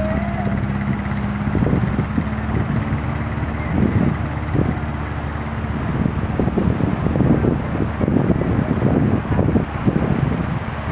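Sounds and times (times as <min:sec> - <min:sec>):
engine hum: 0:00.0 - 0:10.9
wind buffeting microphone: 0:00.0 - 0:10.9.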